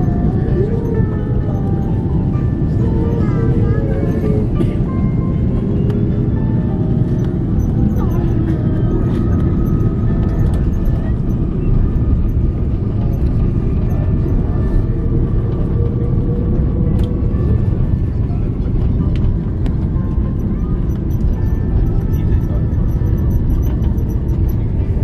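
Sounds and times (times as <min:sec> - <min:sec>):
airliner landing rumble in cabin: 0:00.0 - 0:25.0.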